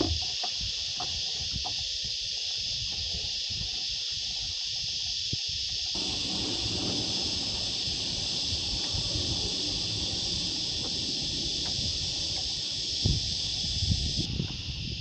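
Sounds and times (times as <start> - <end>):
cicada chorus droning: 0.0 - 15.0.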